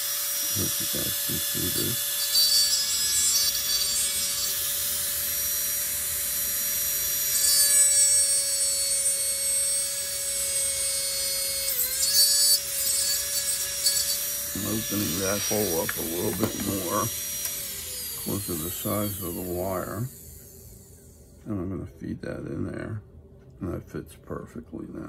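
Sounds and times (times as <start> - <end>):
rotary tool whining: 0.0 - 21.4.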